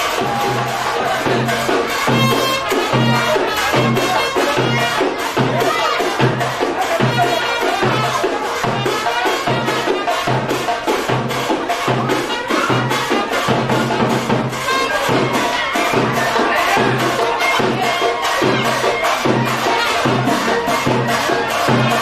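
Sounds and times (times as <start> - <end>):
loud music with drum beat: 0.0 - 22.0.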